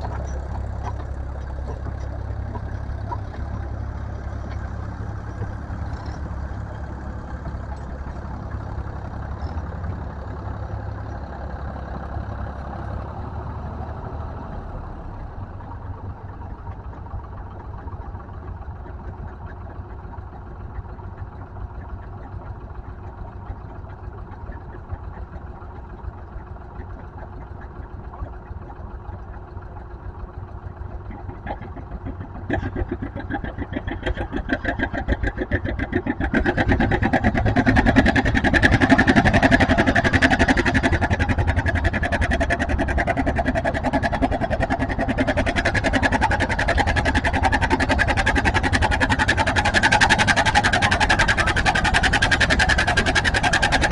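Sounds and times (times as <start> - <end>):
tractor engine rumbling under load: 0.0 - 53.9.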